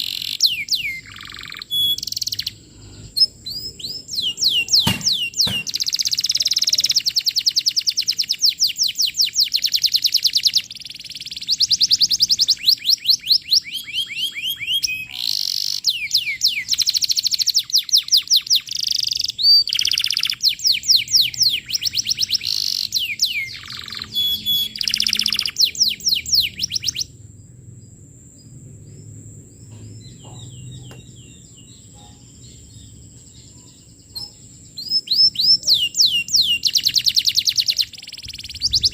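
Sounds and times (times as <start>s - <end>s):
canary singing trills: 0.0s - 27.2s, 28.4s - 38.9s
faint bird chirps: 0.0s - 27.7s, 28.4s - 38.9s.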